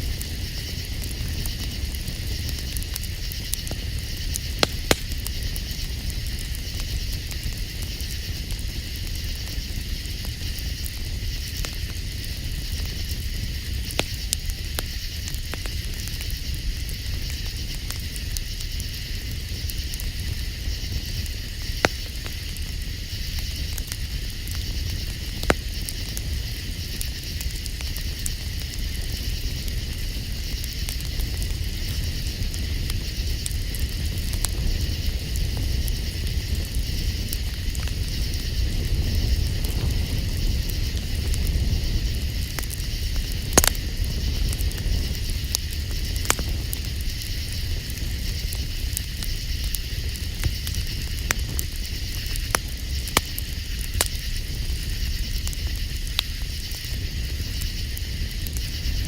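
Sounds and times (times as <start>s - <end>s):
campfire crackling: 0.0s - 59.0s
fire popping sharply: 0.0s - 59.0s.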